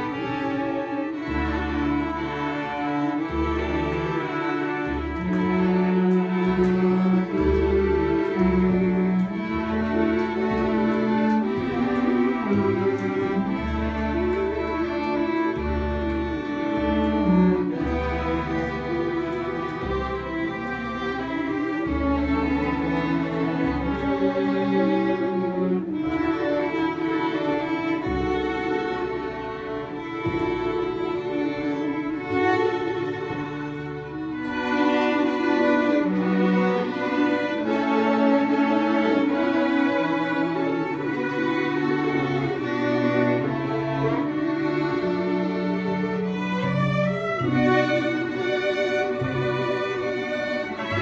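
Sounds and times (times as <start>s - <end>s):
string ensemble playing: 0.0s - 51.0s.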